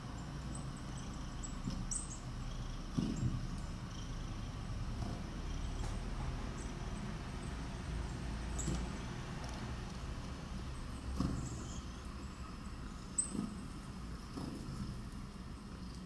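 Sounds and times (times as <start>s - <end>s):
small birds chirping: 0.0s - 14.4s
low steady rumble: 0.0s - 16.0s.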